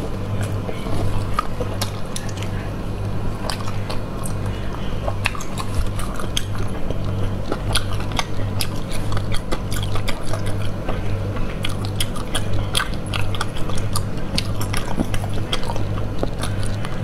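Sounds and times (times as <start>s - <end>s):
steady low hum: 0.0s - 17.0s
wet chewing mouth clicks: 0.0s - 17.0s.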